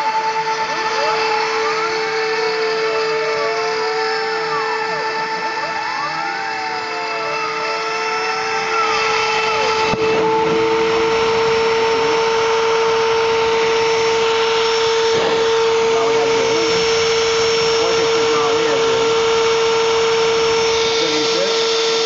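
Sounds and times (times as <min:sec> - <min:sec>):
bit engraving wood: 0:00.0 - 0:22.0
rotary tool high whine: 0:00.0 - 0:22.0
stepper motors whining: 0:00.0 - 0:22.0.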